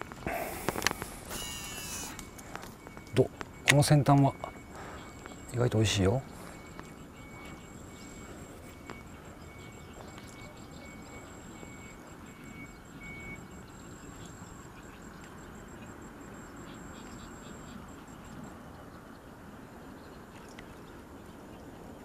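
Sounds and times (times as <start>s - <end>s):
outdoor background hiss: 0.0s - 22.0s
insect trilling: 0.3s - 6.3s, 7.0s - 18.6s.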